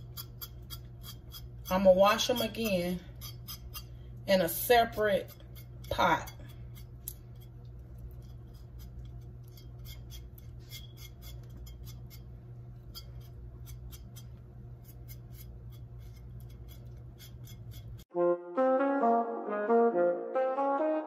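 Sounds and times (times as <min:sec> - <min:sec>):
knife scraping skin: 0:00.0 - 0:04.0, 0:05.0 - 0:18.0
low steady hum: 0:00.0 - 0:18.1.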